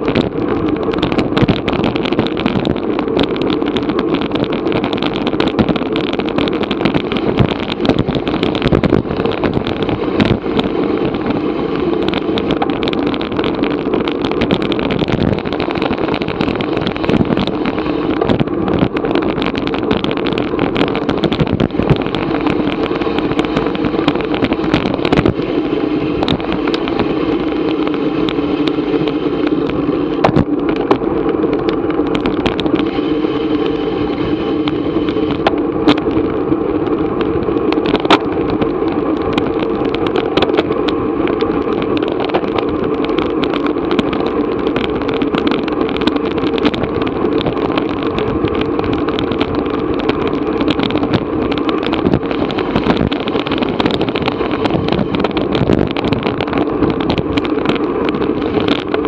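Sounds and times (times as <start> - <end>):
bicycle clicks and rattles: 0.0 - 59.0
wind rushing: 0.0 - 59.0.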